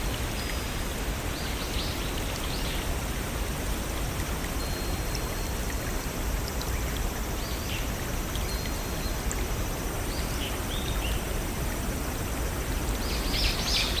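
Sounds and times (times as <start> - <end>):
forest waterfall and stream rushing: 0.0 - 14.0.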